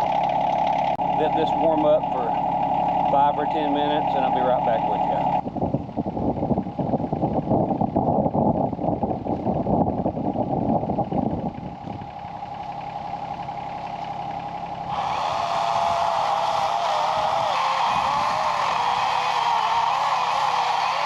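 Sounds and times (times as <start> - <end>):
diesel engine idling with clatter: 0.0 - 21.0
loud hum with wavering tone: 0.0 - 21.0.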